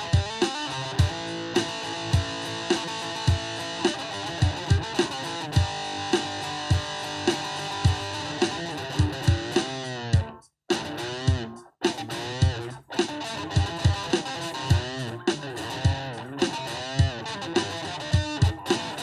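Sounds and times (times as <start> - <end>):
electric guitar melody: 0.0 - 19.0.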